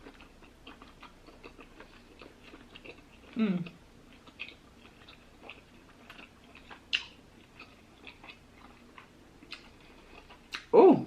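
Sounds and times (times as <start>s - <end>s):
wet chewing clicks and smacks: 0.0s - 10.7s.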